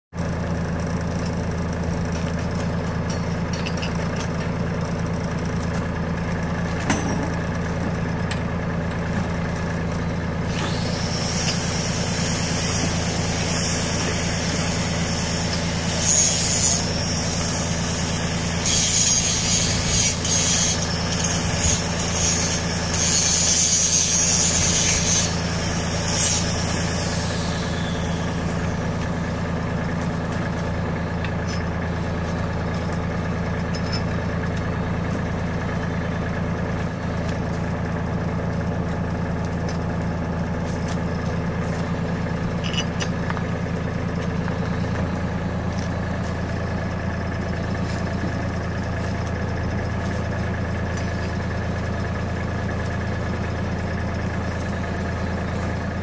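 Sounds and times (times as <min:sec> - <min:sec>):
tractor engine idling: 0:00.2 - 0:56.0.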